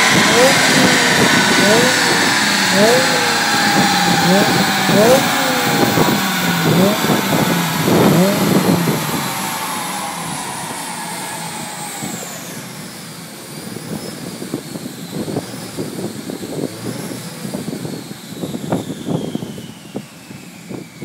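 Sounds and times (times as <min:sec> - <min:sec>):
car engine running: 0:00.0 - 0:21.0
dyno rollers whine falling in pitch: 0:00.0 - 0:21.0.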